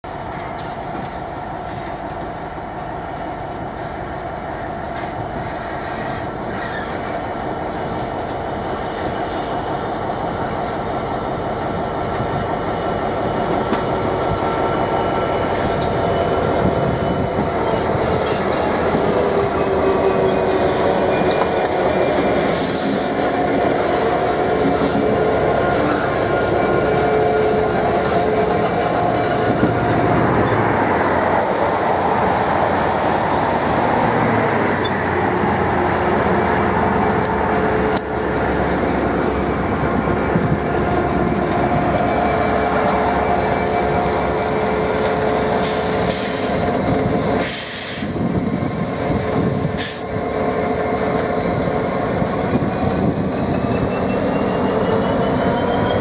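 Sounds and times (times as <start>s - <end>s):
diesel locomotive engine: 0.0s - 56.0s
wheel squeal on rails: 0.1s - 56.0s.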